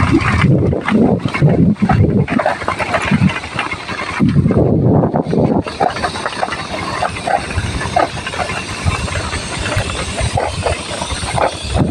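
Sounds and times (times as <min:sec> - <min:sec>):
vehicle engine running: 0:00.0 - 0:11.9
wind buffeting microphone: 0:00.0 - 0:11.9.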